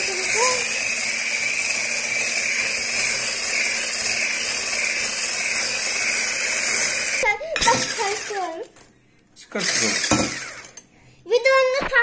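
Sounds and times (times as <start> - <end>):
stick blender whisking: 0.0 - 8.7, 9.5 - 10.9.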